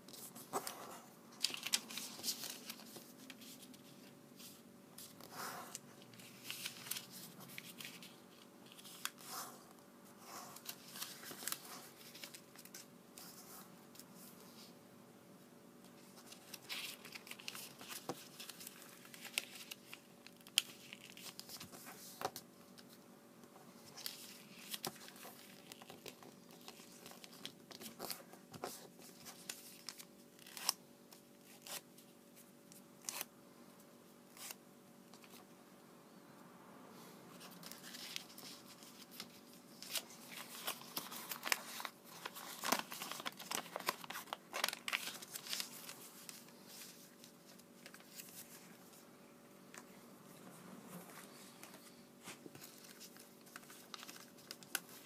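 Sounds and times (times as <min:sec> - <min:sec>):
paper being folded and creased: 0:00.1 - 0:09.6, 0:10.2 - 0:14.7, 0:16.0 - 0:23.0, 0:23.7 - 0:31.8, 0:37.4 - 0:49.0, 0:51.0 - 0:55.0.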